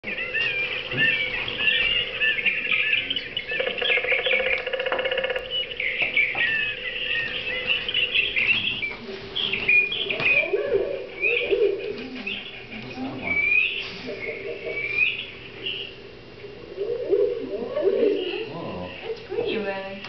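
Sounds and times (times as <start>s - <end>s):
pulsed rattling bird trill: 0.0s - 19.7s
faint steady hum: 0.0s - 20.0s
songbirds chirping and whistling: 0.0s - 20.0s.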